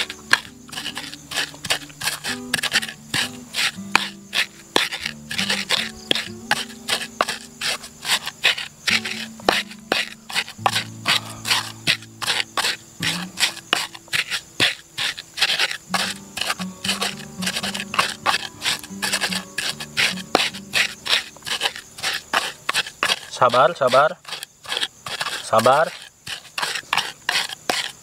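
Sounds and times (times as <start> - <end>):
stone pestle grinding in mortar: 0.0 - 28.0.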